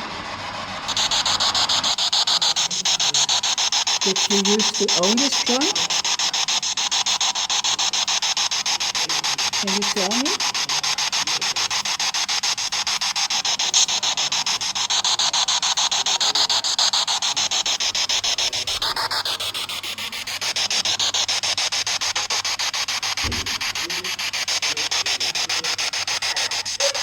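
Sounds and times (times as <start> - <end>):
chopped radio static hiss: 0.0 - 27.0.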